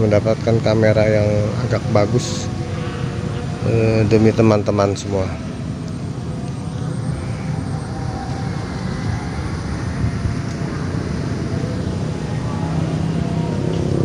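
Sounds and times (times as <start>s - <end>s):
faint hum: 0.0s - 14.0s
low engine rumble: 0.0s - 14.0s.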